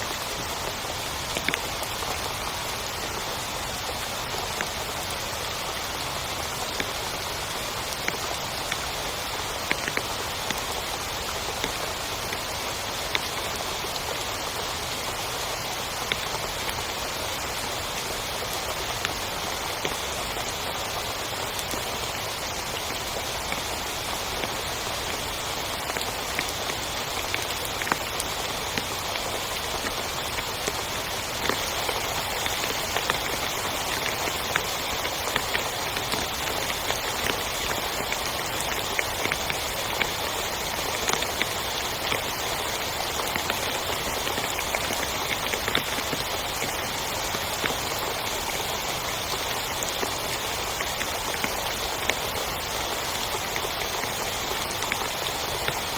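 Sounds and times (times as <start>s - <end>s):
heavy rain on a tent: 0.0s - 55.9s.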